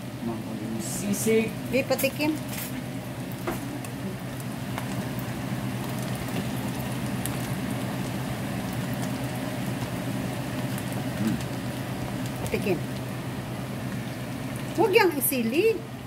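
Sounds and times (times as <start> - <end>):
meat sizzling in a frying pan: 1.6 - 15.7.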